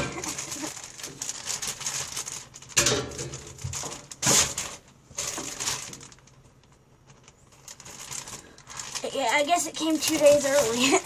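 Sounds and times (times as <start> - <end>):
packaging torn and crinkled: 0.0 - 11.0.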